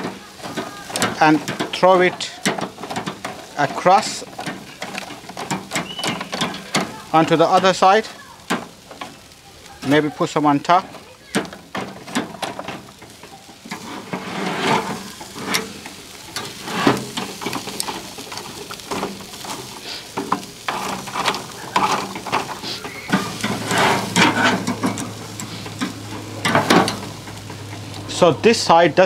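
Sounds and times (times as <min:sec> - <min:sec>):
charcoal scraping and clattering: 0:00.0 - 0:29.0
chicken sizzling on grill: 0:00.0 - 0:29.0.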